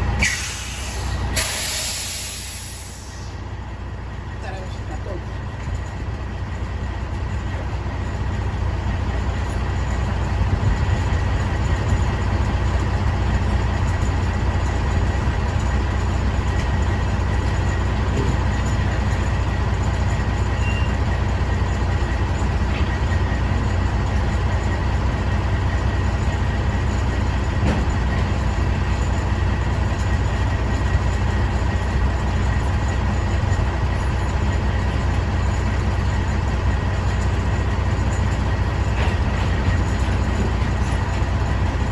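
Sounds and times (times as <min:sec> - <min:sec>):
diesel truck engine rumbling: 0:00.0 - 0:41.9.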